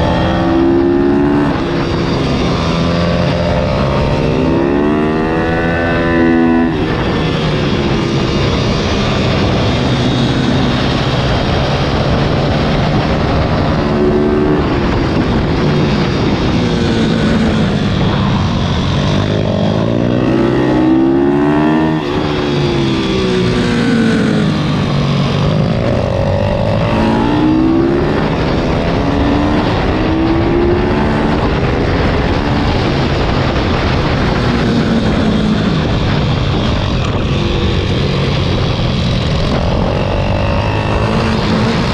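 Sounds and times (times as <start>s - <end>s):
motorcycle engine revving: 0.0s - 41.9s
rushing wind noise: 0.0s - 41.9s.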